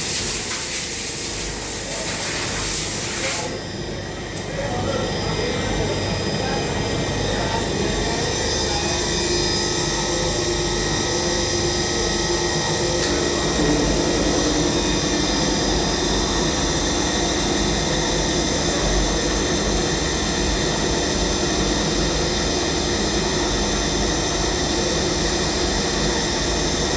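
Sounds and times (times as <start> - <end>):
machining centre running: 0.0 - 26.9.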